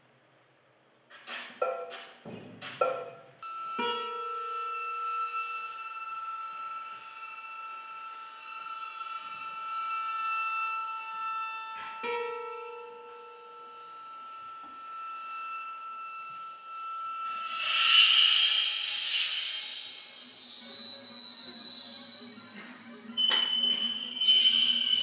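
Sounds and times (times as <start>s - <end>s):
bowed metal percussion tones: 1.6s - 25.0s.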